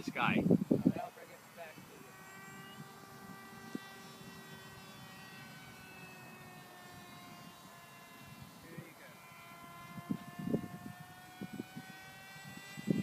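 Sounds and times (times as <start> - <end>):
model airplane motor whine: 0.0 - 13.0.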